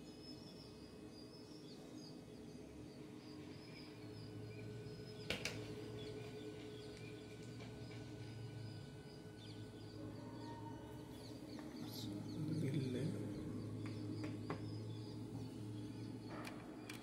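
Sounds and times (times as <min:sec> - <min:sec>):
faint bird chirps: 0:00.0 - 0:17.0
steady low hum: 0:00.0 - 0:17.0.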